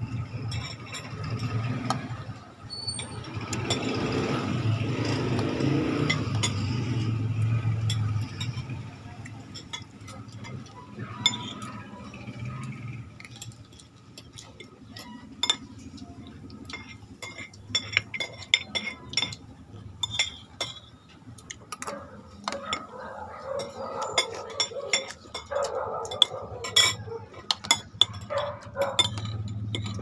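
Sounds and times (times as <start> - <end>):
spoons clinking against plates: 0.0 - 30.0.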